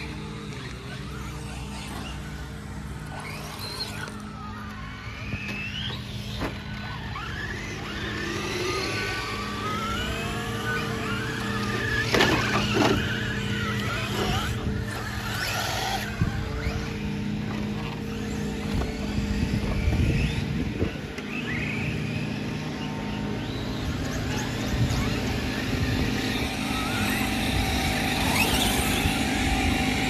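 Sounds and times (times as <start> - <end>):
electric motors whining: 0.0 - 30.0
steady low hum: 0.0 - 30.0.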